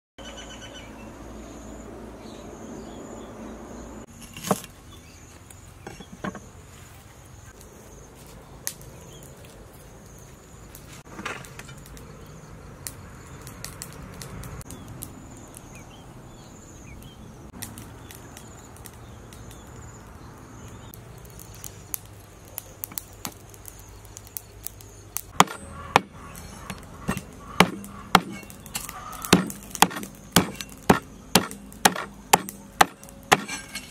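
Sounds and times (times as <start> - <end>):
insects chirring: 0.7 - 33.9.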